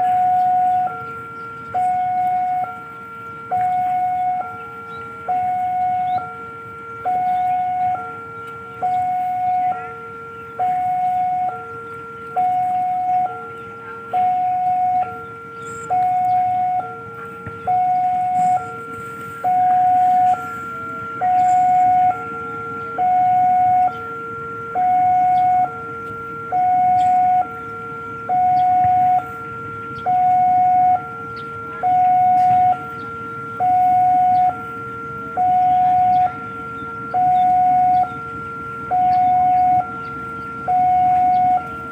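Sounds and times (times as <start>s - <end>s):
level crossing two-tone alarm: 0.0s - 41.9s.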